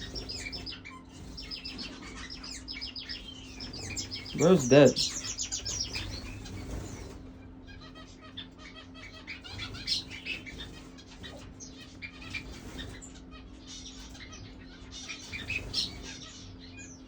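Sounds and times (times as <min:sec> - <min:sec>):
steady low hum: 0:00.0 - 0:16.5
small birds chirping: 0:00.0 - 0:17.0.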